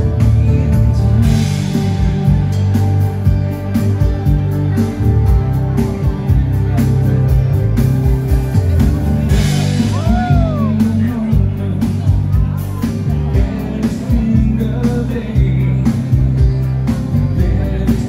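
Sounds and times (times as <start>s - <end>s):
bass notes: 0.0s - 18.0s
drum kit beat: 0.0s - 18.0s
guitar: 0.0s - 18.0s.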